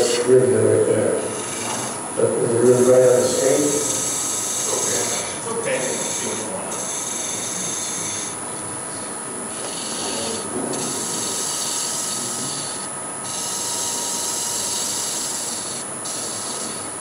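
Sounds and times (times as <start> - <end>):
gouge cutting wood on lathe: 0.0 - 17.0.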